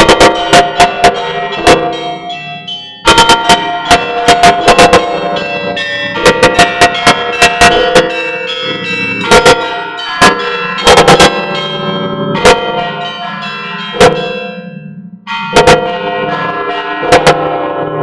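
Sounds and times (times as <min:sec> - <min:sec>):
large bells ringing: 0:00.0 - 0:18.0
small church bells clanging: 0:00.0 - 0:18.0.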